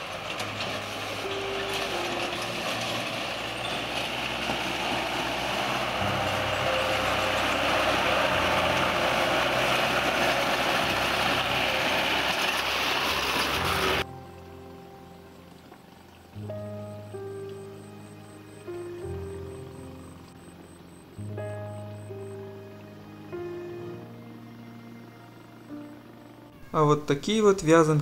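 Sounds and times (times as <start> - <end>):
tyres crunching on dirt road: 0.0 - 24.2
light truck engine: 0.0 - 28.0.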